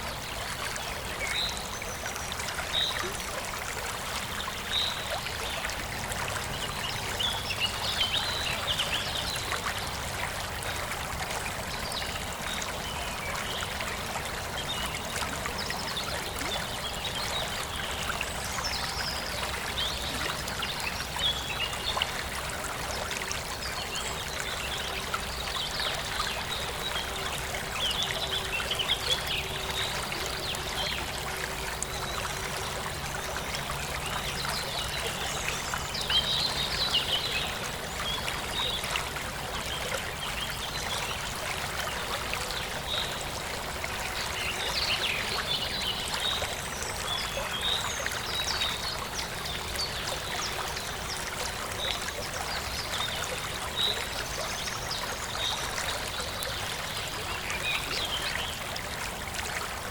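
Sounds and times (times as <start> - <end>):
stream flowing and trickling: 0.0 - 59.9.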